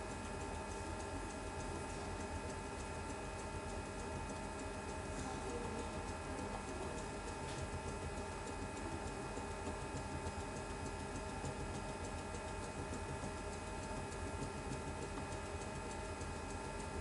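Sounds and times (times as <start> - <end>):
fast regular ticking: 0.1 - 17.0.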